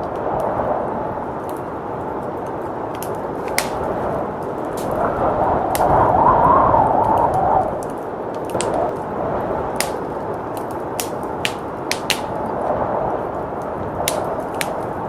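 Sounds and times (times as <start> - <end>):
blizzard wind: 0.0 - 15.0
wood fire crackling and popping: 0.0 - 15.0.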